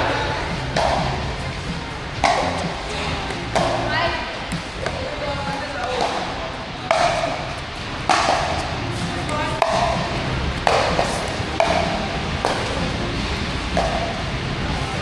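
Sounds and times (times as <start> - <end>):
paddles hitting plastic ball: 0.7 - 15.0.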